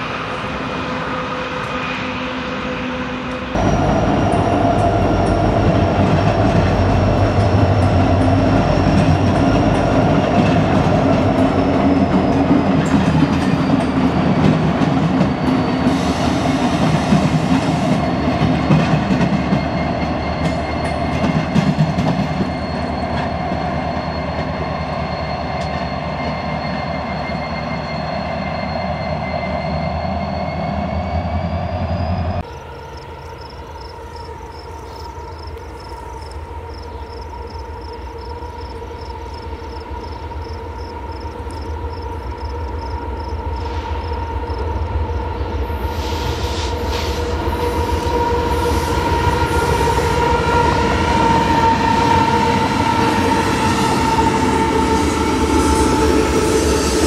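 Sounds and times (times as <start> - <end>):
diesel locomotive engines running: 0.0 - 57.0
high wheel squeal: 0.0 - 57.0.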